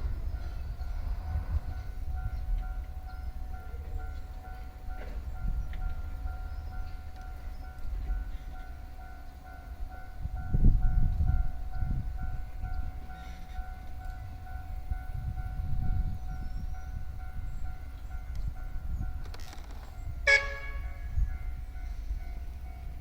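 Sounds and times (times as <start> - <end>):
level-crossing warning bell ringing: 0.0 - 23.0
low rumble of rail traffic: 0.0 - 23.0.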